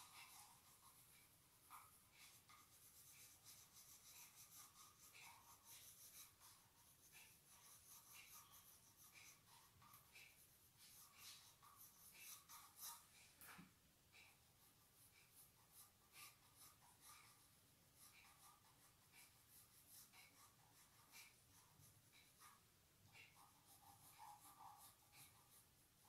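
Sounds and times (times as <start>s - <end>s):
crayon scratching on paper: 0.0s - 13.3s, 14.2s - 26.0s.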